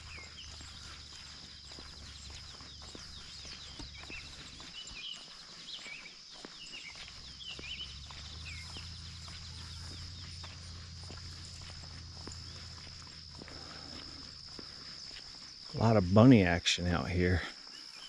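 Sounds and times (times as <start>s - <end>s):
birds chirping: 0.0s - 18.0s
footsteps crunching on trail: 0.0s - 18.0s
insects buzzing: 0.0s - 18.0s.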